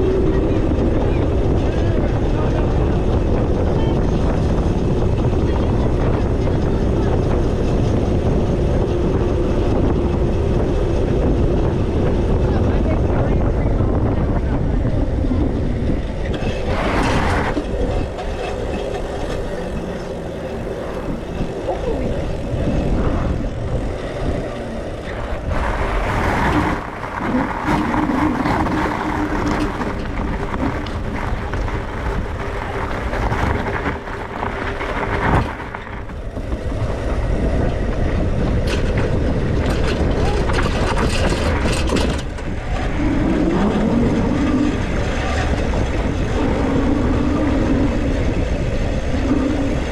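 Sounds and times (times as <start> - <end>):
wind and road rush: 0.0 - 49.9.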